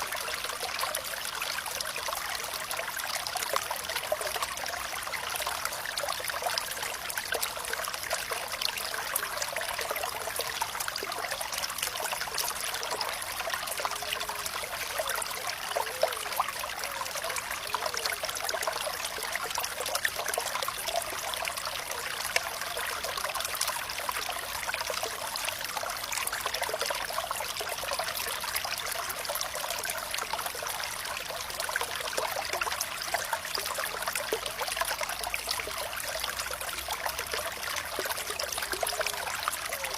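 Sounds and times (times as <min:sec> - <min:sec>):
water gurgles: 0:00.0 - 0:39.9
water trickling: 0:00.0 - 0:39.9.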